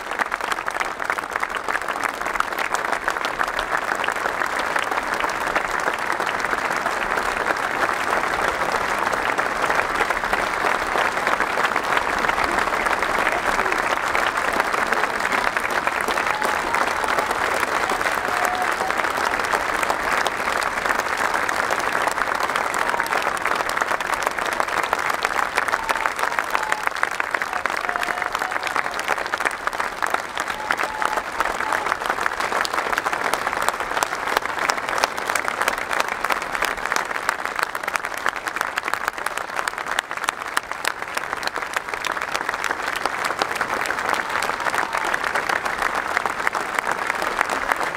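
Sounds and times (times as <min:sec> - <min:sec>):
stadium crowd applauding: 0:00.0 - 0:47.9.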